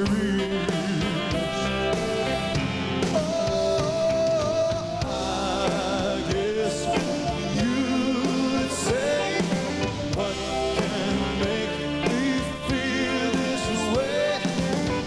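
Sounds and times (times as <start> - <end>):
man singing: 0.0 - 15.0
rock and roll band playing: 0.0 - 15.0.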